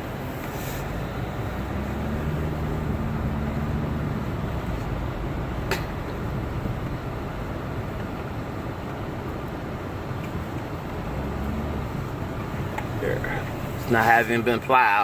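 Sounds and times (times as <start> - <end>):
car driving through snow: 0.0 - 14.6.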